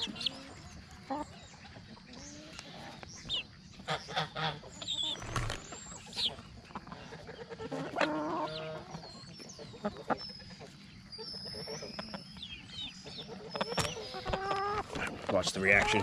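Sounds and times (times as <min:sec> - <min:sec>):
chickens clucking and peeping: 0:00.0 - 0:16.0.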